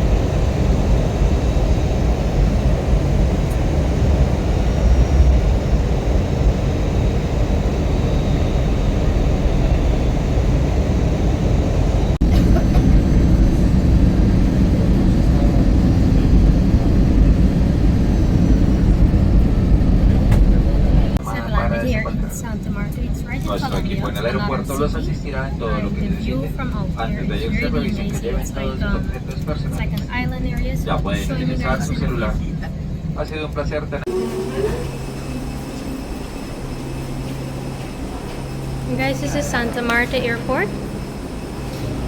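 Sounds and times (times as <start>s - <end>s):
airliner cabin engine rumble: 0.0s - 42.0s.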